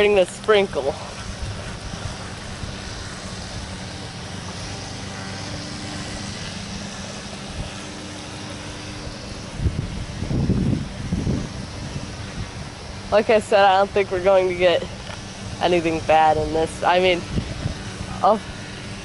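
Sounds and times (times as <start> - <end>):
faint distant engine hum: 0.0 - 19.0
wind: 0.0 - 19.0.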